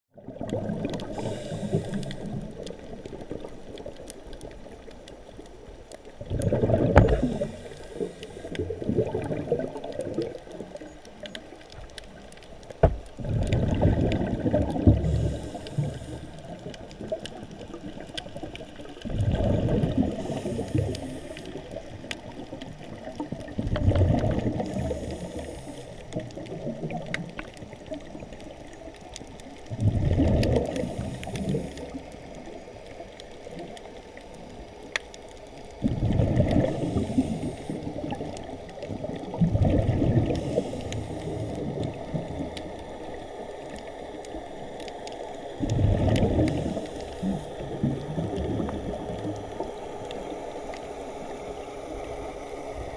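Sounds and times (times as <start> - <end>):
underwater exhaust bubbles gurgling: 0.1 - 52.9.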